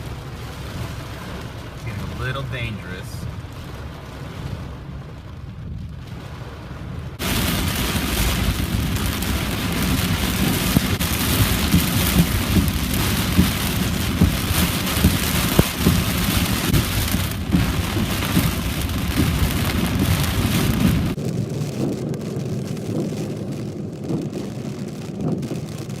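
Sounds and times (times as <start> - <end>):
heavy rain pelting a car: 0.0 - 26.0
low road rumble: 0.0 - 26.0.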